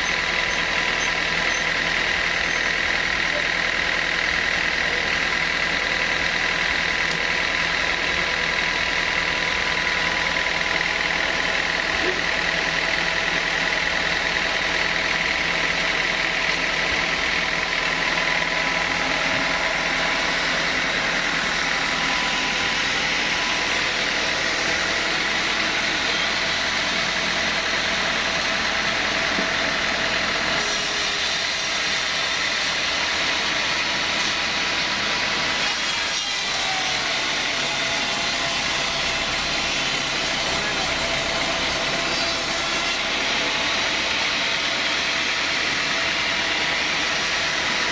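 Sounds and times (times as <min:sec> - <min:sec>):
sawmill saw cutting wood: 0:00.0 - 0:47.9.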